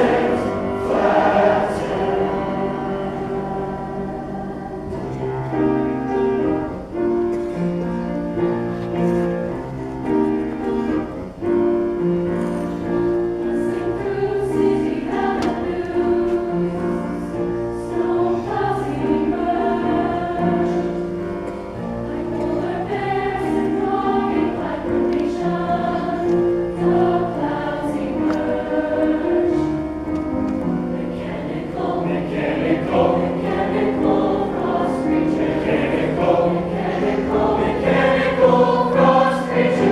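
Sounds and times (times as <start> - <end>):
choir singing held chords: 0.0 - 7.3, 9.4 - 39.9.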